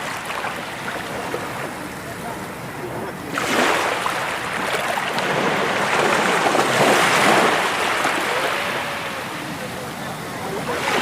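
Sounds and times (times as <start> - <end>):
sea waves breaking on shore: 0.0 - 11.0.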